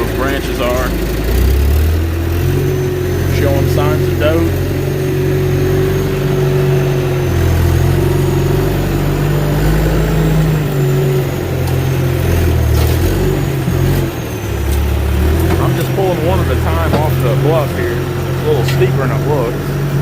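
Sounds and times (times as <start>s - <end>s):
heavy machine engine droning: 0.0s - 20.0s.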